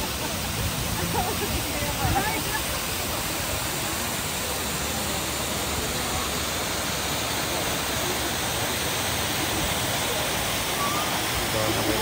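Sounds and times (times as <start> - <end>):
water pouring down waterfall: 0.0 - 12.0.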